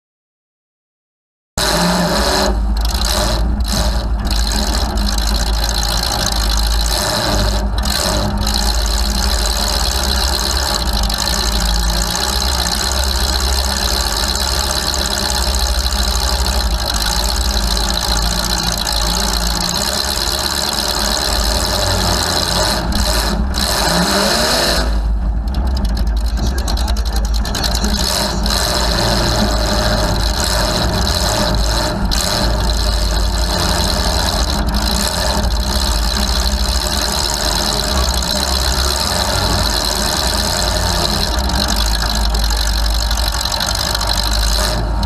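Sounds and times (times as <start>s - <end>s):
car engine idling loudly: 1.6s - 45.0s.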